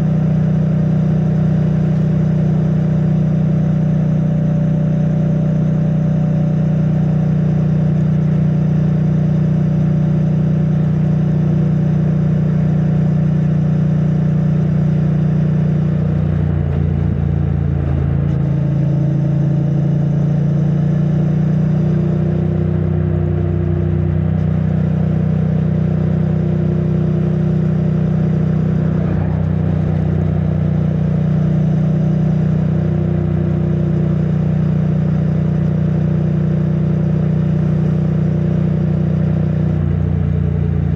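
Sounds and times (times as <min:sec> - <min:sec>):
muffled motorcycle engine running: 0:00.0 - 0:40.9.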